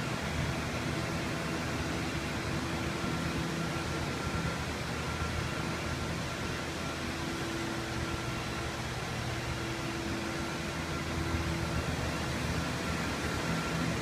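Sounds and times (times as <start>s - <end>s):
fan humming and whooshing: 0.0s - 14.0s.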